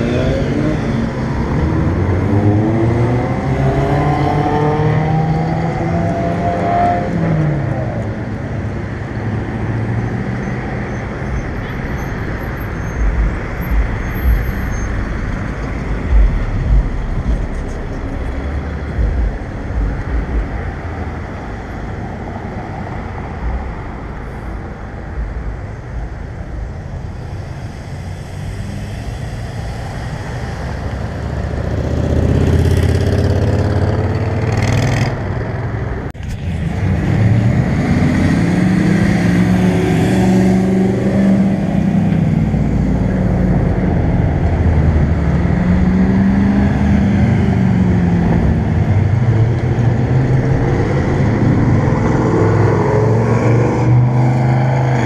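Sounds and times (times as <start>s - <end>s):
car and truck engines: 0.0s - 55.0s.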